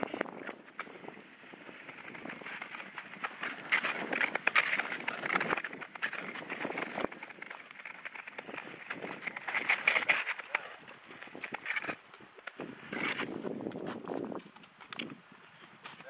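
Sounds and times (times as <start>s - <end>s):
skate blades scraping on ice: 0.0s - 14.4s
ice clicks and crackles: 0.0s - 15.2s.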